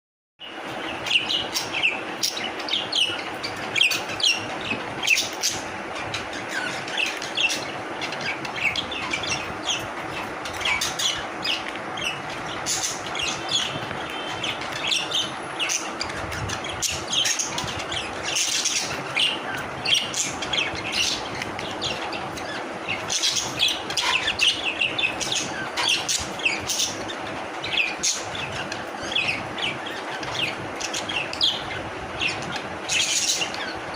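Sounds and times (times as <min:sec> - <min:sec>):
budgerigars chirping and chattering: 0:00.4 - 0:33.9
steady low hum: 0:00.4 - 0:33.9.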